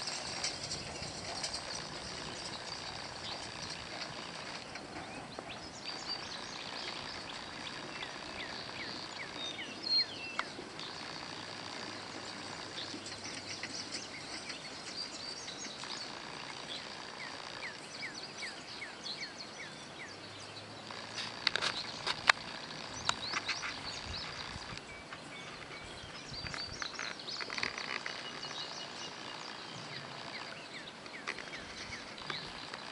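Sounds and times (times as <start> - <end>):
birds chirping: 0.0 - 32.9
steady high hum: 0.0 - 32.9.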